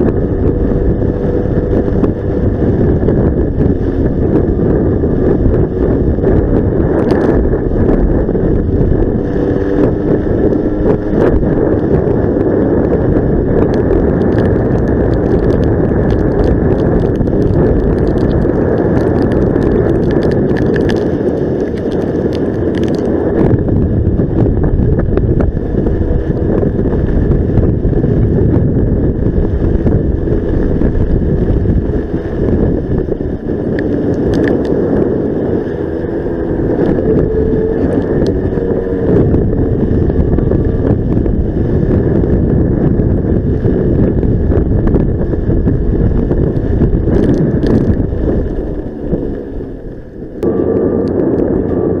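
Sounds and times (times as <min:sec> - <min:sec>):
small scooter engine running: 0:00.0 - 0:52.0
wind noise on microphone: 0:00.0 - 0:52.0.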